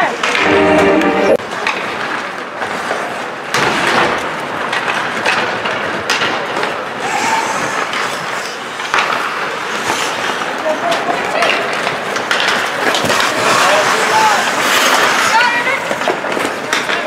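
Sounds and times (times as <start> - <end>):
skates scraping on ice: 1.4 - 17.0.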